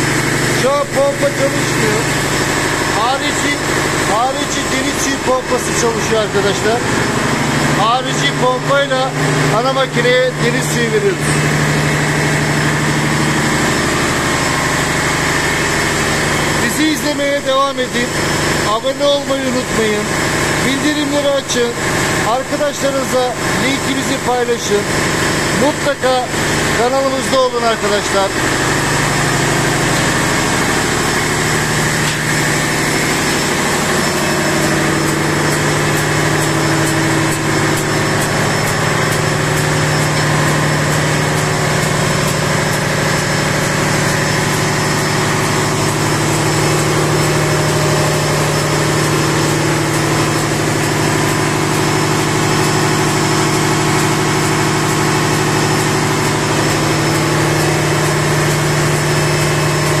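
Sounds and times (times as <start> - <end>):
engine room machinery drone: 0.0 - 60.0.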